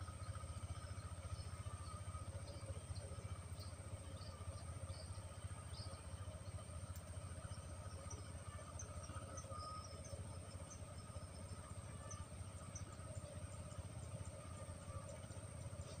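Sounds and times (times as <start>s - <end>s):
high insect drone: 0.0s - 16.0s
low steady rumble: 0.0s - 16.0s.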